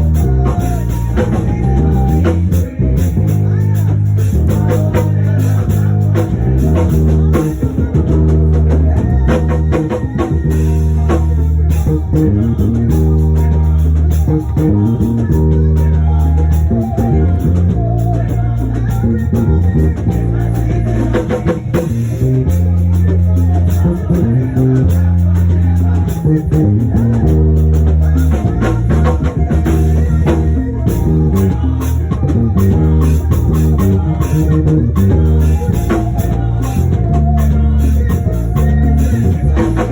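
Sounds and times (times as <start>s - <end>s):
bass guitar low notes: 0.0s - 39.9s
instrumental band music: 0.0s - 39.9s.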